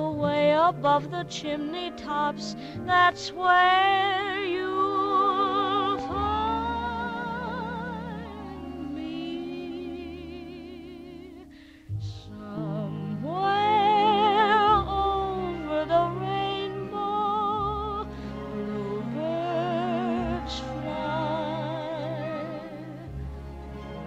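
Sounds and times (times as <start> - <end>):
low steady accompaniment: 0.0 - 24.0
operatic high melody with vibrato: 0.0 - 24.0.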